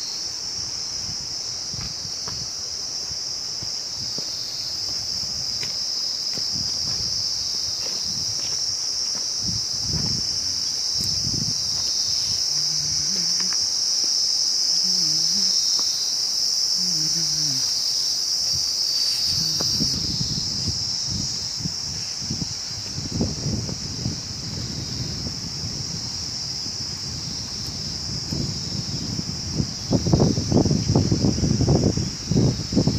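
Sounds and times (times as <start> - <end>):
insects chorus: 0.0 - 32.9
wind buffeting microphone: 0.5 - 13.7, 18.4 - 32.9.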